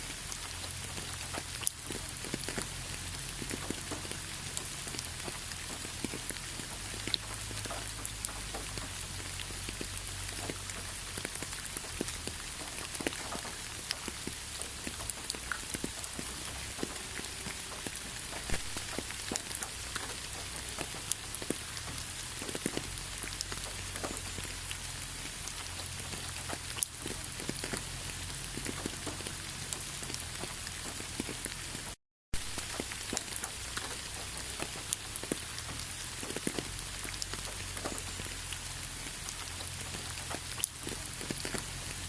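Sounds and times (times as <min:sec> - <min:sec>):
raindrops ticking on surfaces: 0:00.0 - 0:42.0
steady rain hiss: 0:00.0 - 0:42.0.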